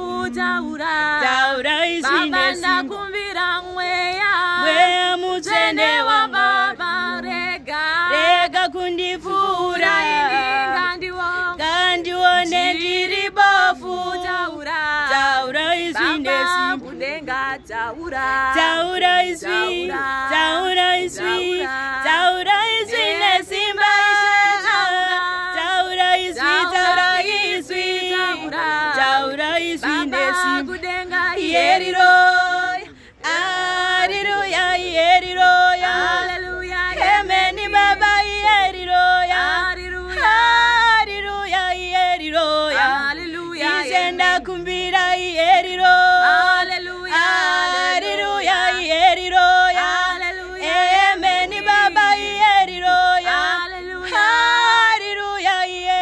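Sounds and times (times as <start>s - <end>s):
women singing gospel song: 0.0s - 56.0s.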